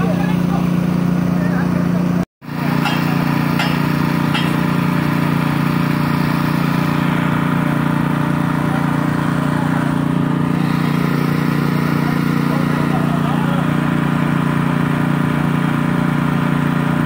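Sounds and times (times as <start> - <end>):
small engine humming steadily: 0.0 - 17.0.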